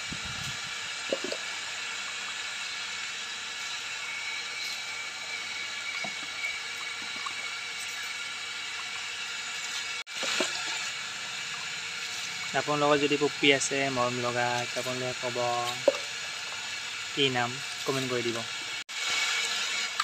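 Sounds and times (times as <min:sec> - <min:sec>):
water running: 0:00.0 - 0:20.0.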